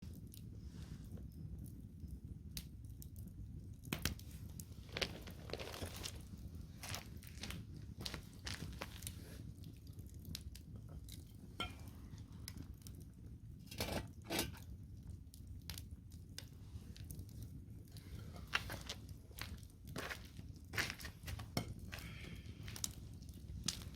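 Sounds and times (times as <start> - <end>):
logs crackling and popping: 0.0 - 23.9
rush of flames: 0.0 - 23.9.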